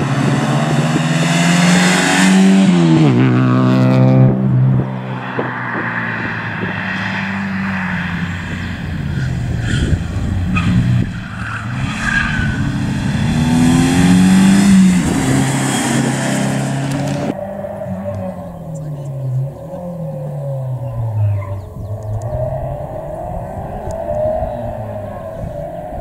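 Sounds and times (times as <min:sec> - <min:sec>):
rally car passing at speed: 0:00.0 - 0:26.0.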